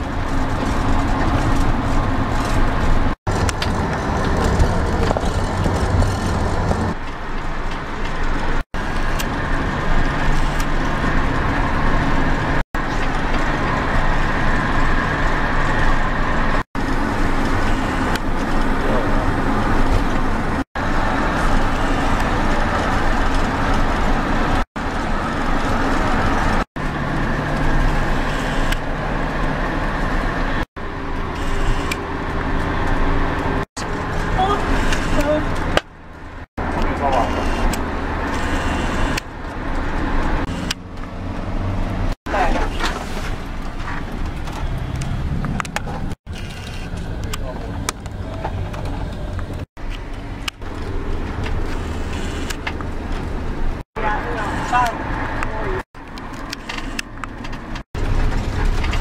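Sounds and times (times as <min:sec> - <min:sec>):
car road and engine noise: 0:00.0 - 0:59.0.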